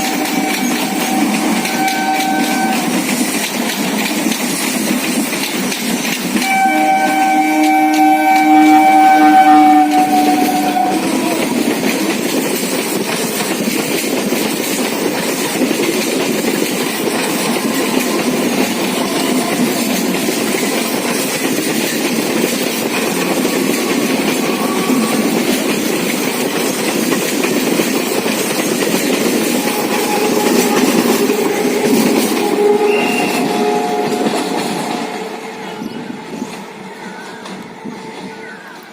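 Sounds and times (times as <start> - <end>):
train wheels clattering over rail joints: 0.0 - 9.0, 9.6 - 35.2.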